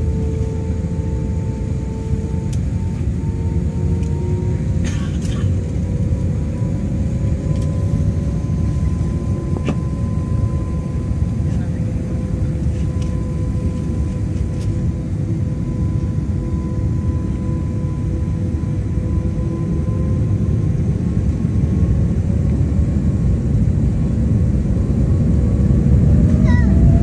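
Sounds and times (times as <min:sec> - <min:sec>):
jet engines heard from cabin: 0:00.0 - 0:27.0.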